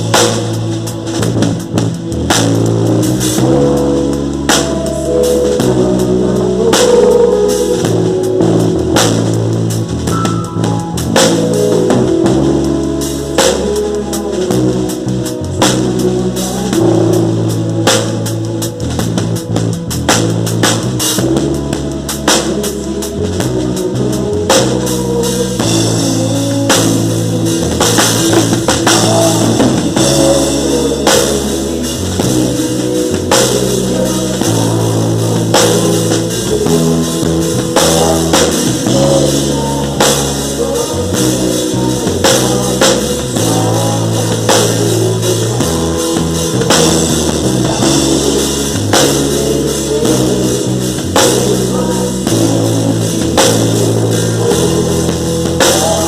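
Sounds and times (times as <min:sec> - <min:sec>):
bass notes: 0:00.0 - 0:56.0
drum kit beat: 0:00.0 - 0:56.0
guitar: 0:00.0 - 0:56.0.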